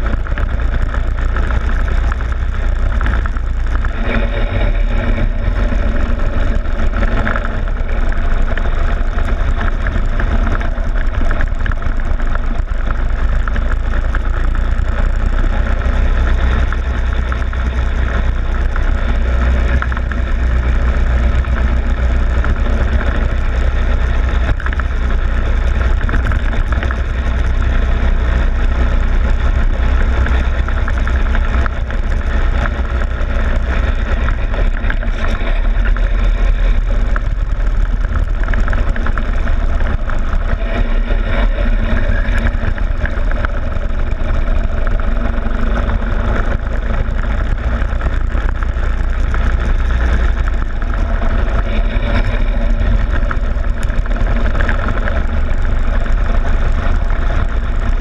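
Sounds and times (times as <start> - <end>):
go-kart engine running: 0.0 - 58.0
heavy low rumble: 0.0 - 58.0.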